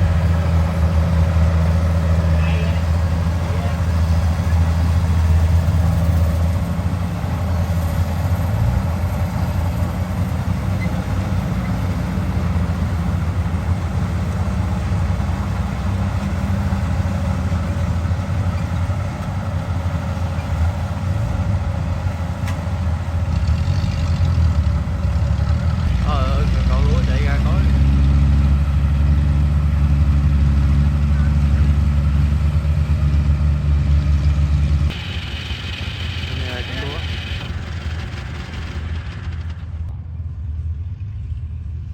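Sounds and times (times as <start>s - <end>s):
harvesting machinery clatter: 0.0s - 39.9s
diesel engine droning: 0.0s - 41.9s.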